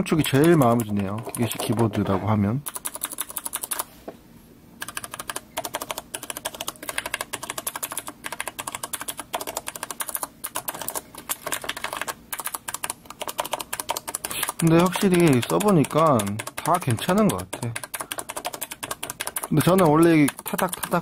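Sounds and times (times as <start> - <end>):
mechanical keyboard clicks: 0.2 - 2.0, 2.7 - 3.8, 4.8 - 21.0.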